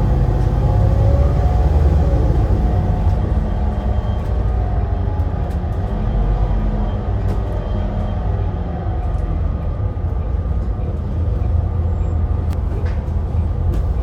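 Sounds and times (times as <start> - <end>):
bus diesel engine rumble: 0.0 - 14.0.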